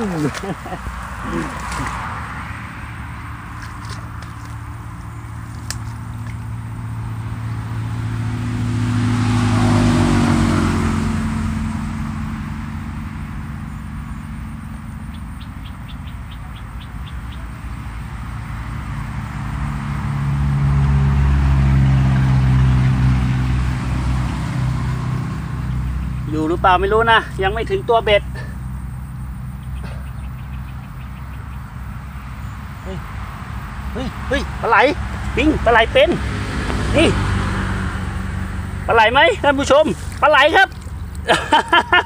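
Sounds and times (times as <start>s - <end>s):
road vehicles passing by: 0.0s - 42.0s.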